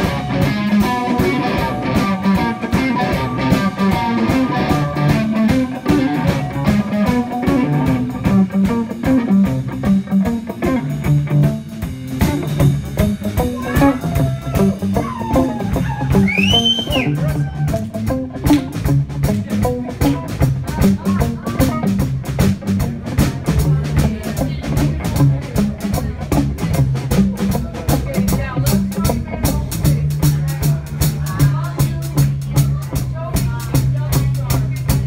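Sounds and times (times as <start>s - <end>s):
blues band playing: 0.0s - 35.0s.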